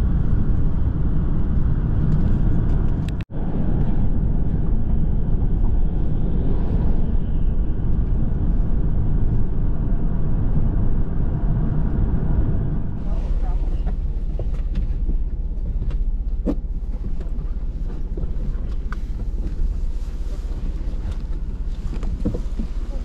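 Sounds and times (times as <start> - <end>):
road and engine rumble in cabin: 0.0 - 23.0.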